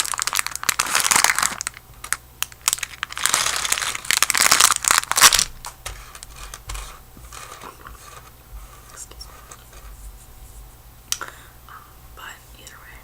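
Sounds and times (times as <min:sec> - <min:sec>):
crinkly material crumpling: 0:00.0 - 0:10.6.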